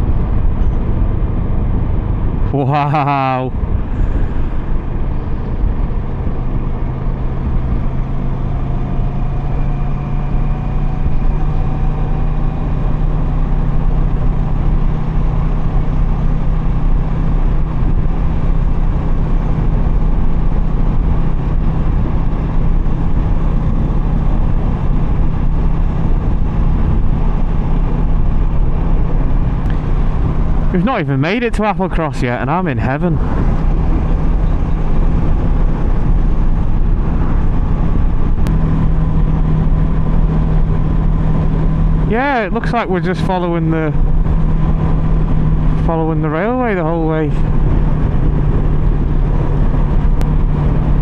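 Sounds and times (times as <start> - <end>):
motorcycle engine cruising: 0.0 - 51.0
wind rush: 3.3 - 8.6, 13.8 - 51.0.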